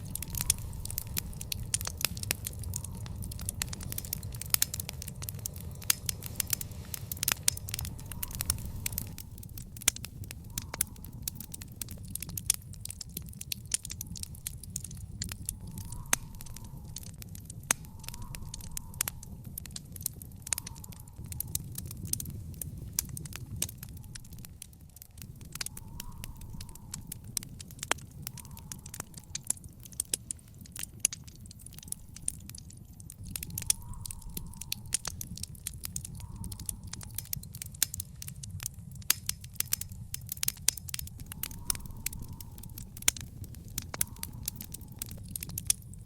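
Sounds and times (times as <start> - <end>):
wood fire crackling and popping: 0.0 - 46.0.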